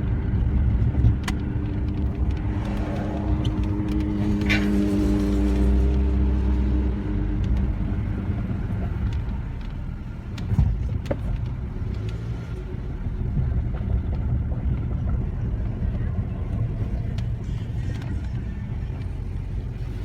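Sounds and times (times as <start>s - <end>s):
car engine low rumble: 0.0s - 20.0s
engine tones: 0.0s - 20.0s.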